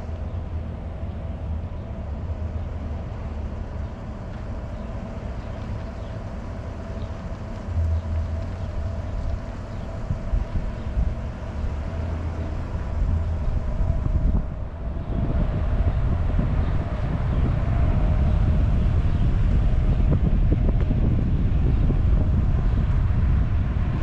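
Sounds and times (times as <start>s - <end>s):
low rumble: 0.0s - 24.0s
wind buffeting microphone: 0.0s - 24.0s.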